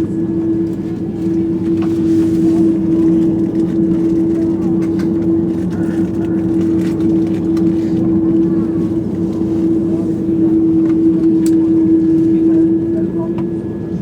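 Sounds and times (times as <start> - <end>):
jet engines droning: 0.0 - 14.0.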